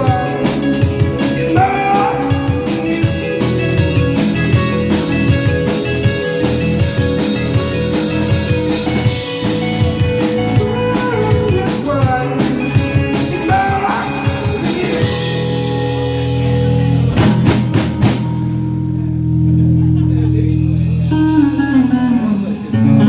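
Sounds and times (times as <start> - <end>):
drum kit: 0.0 - 23.0
electric guitar sliding melody: 0.0 - 23.0
rock band playing: 0.0 - 23.0.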